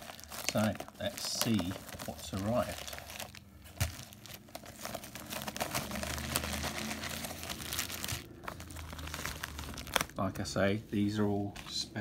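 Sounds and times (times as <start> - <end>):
plastic bags crinkling: 0.0 - 10.4.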